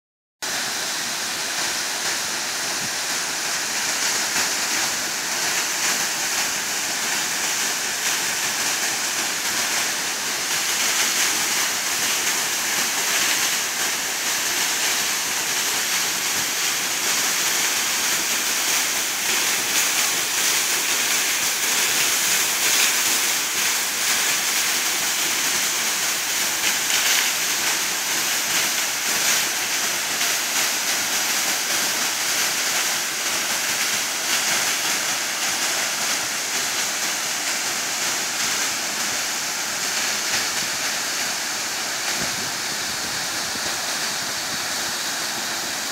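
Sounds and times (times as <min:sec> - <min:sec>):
waterfall rushing onto rocks: 0:00.4 - 0:45.9.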